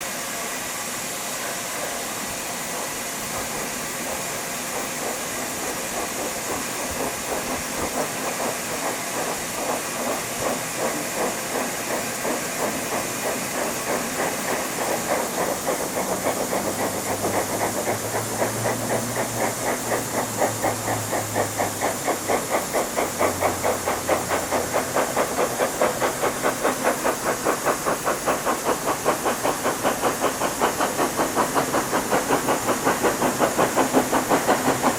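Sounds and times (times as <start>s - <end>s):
steam locomotive hissing: 0.0s - 34.9s
locomotive exhaust chuffing: 2.6s - 34.9s.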